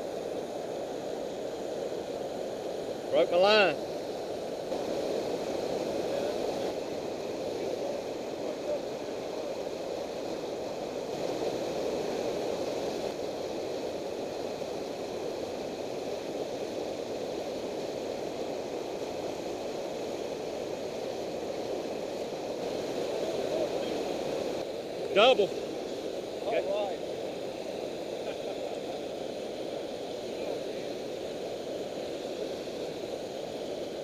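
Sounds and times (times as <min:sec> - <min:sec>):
river water rushing over dam: 0:00.0 - 0:34.0.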